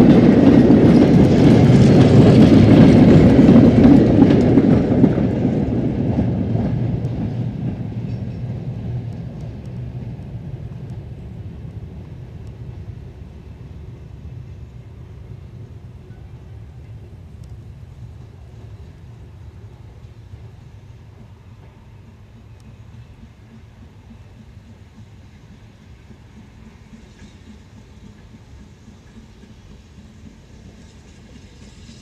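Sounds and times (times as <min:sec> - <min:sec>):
train wagons rumbling over rails: 0:00.0 - 0:32.0.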